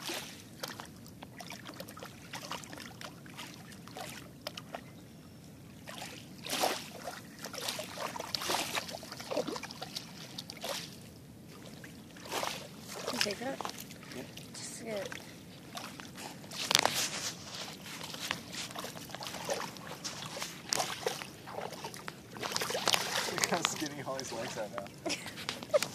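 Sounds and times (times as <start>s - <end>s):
dogs splashing in water: 0.0s - 4.8s, 5.8s - 25.9s
river trickling: 0.0s - 25.9s.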